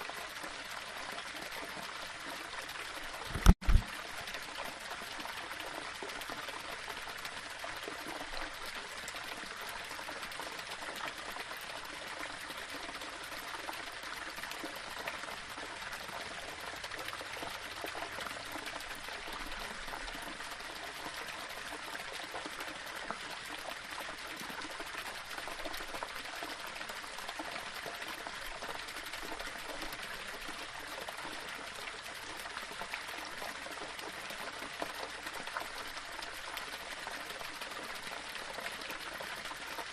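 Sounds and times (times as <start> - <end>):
small waterfall splashing over stones: 0.0 - 39.9.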